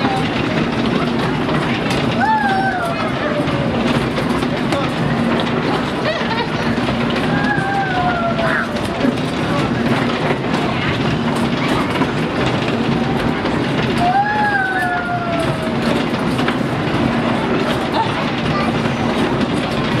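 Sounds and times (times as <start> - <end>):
ride cars rattling on track: 0.0 - 20.0.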